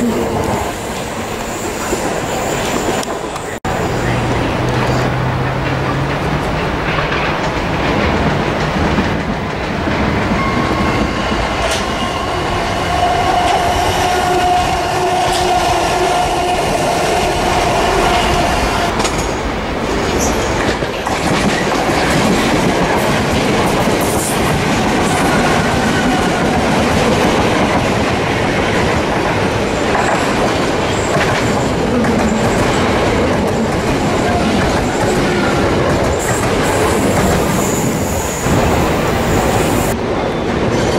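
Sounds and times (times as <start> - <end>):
train rail rumble: 0.0 - 40.9.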